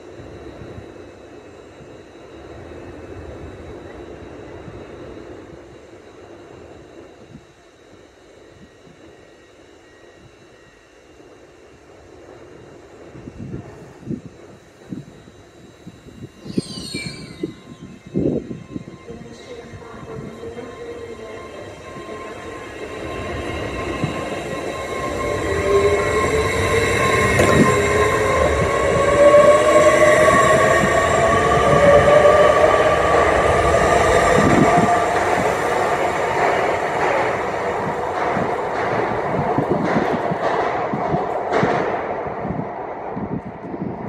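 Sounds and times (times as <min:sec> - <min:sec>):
passenger train passing: 0:00.0 - 0:44.0
rising whine of train: 0:00.0 - 0:44.0.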